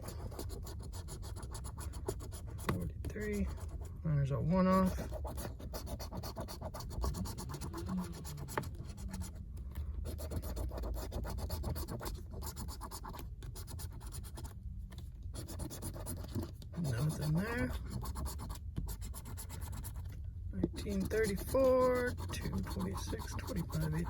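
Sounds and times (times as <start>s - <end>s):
scratching lottery ticket: 0.0s - 3.9s, 4.6s - 9.4s, 10.0s - 14.6s, 15.3s - 24.0s.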